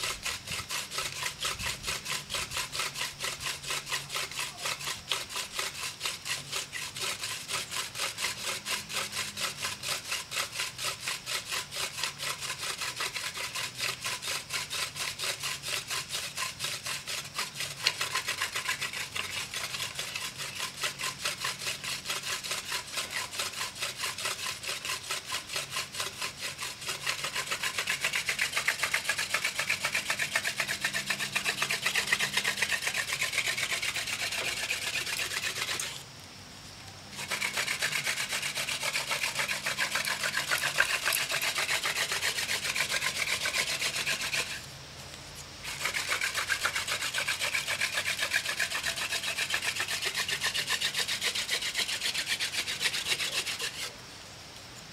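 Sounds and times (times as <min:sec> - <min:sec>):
wooden spindle scraping in hearth board: 0:00.0 - 0:36.0, 0:37.1 - 0:54.0.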